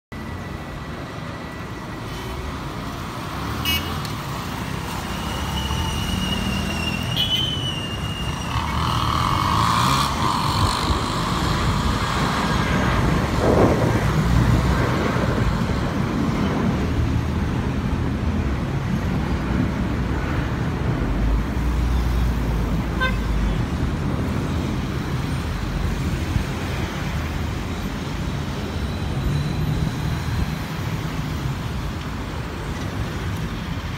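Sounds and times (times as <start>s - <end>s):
street traffic noise: 0.1s - 33.9s.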